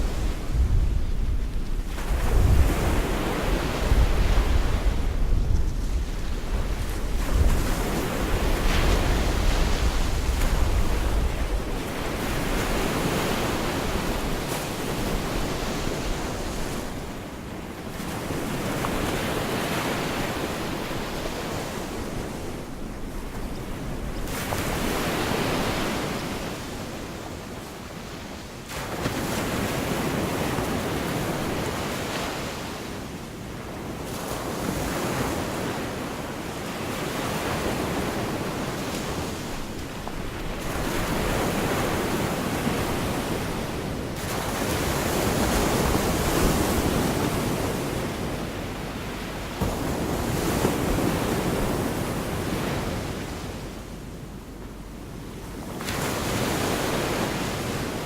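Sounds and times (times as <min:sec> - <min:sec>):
surf breaking on a beach: 0:00.0 - 0:58.0.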